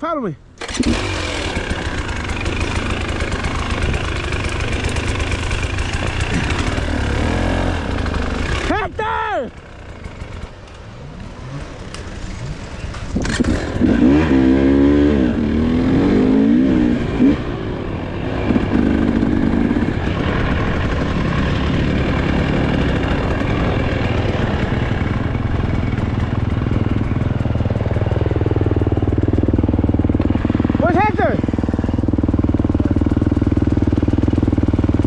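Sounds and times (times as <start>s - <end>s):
dirt bike engine revving: 0.6s - 35.0s.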